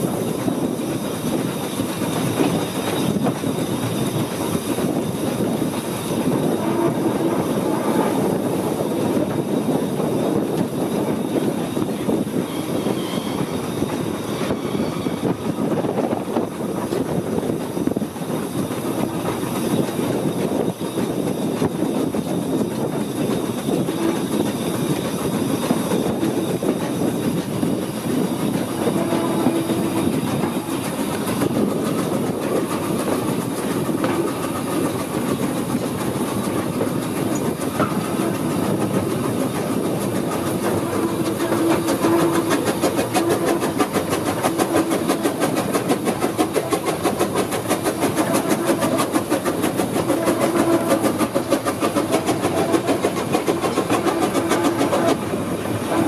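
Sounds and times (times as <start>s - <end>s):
rail clatter from wheels: 0.0s - 56.0s
steam locomotive exhaust beat: 0.0s - 56.0s.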